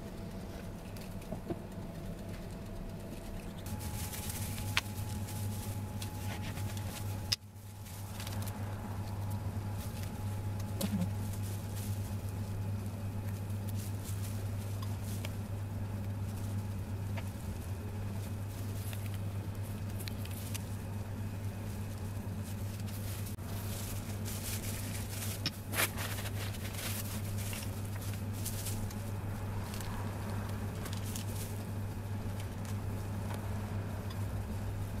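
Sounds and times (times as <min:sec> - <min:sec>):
steady low hum: 0:00.0 - 0:35.0
plastic gloves rustling: 0:03.0 - 0:35.0.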